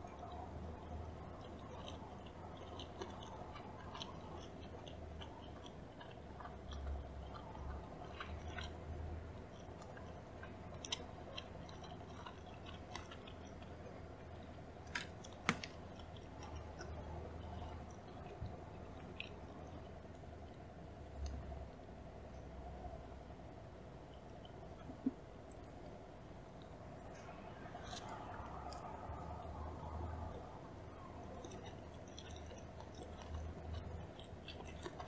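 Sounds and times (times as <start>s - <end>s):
wet chewing: 0.0s - 21.8s, 24.0s - 35.0s.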